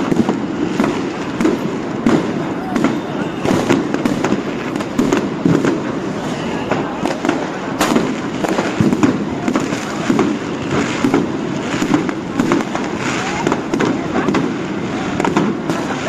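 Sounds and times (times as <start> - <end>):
fireworks bangs and cracks: 0.0 - 16.0
voices: 0.0 - 16.0.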